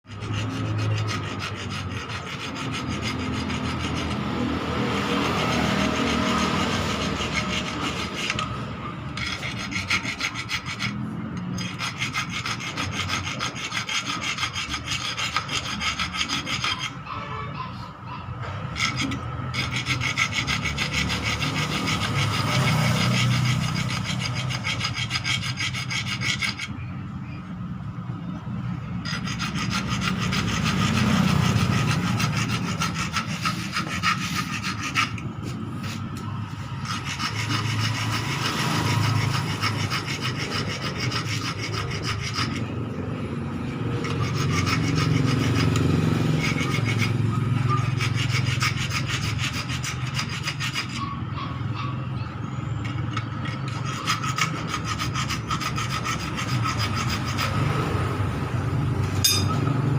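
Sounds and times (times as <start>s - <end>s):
hand file rasping: 0.0s - 27.4s, 28.8s - 59.9s.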